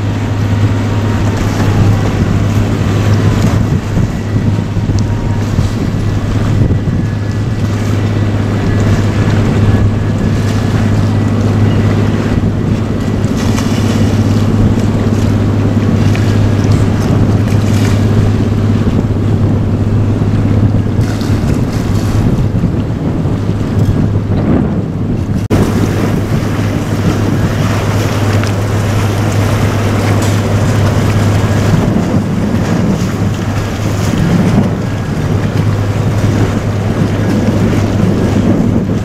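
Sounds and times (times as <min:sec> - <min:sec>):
ship engine drone: 0:00.0 - 0:39.0
wind on microphone: 0:00.0 - 0:39.0.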